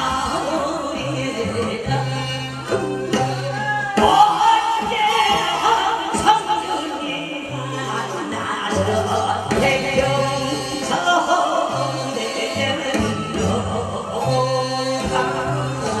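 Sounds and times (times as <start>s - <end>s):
amplified backing music: 0.0s - 16.0s
man singing into a microphone: 0.0s - 16.0s.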